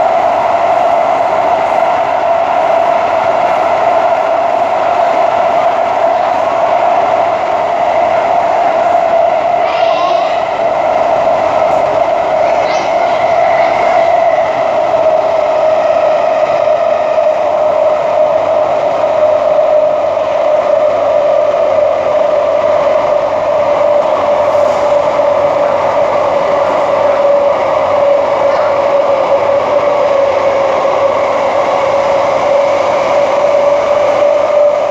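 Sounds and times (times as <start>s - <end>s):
metro train running noise: 0.0s - 34.9s
train whine: 0.0s - 34.9s.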